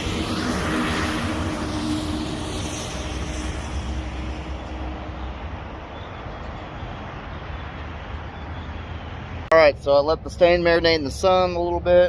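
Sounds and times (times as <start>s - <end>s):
distant engine rumble: 0.0s - 12.0s.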